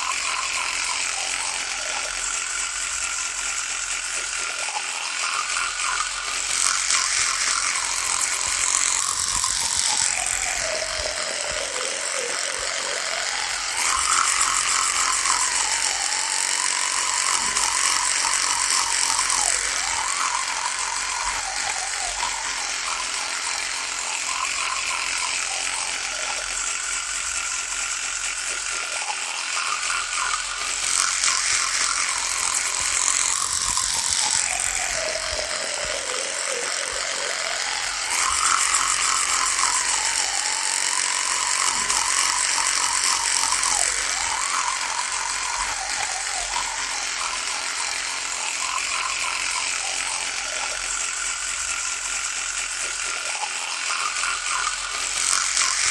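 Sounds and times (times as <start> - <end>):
electric toothbrush buzzing: 0.0 - 55.9.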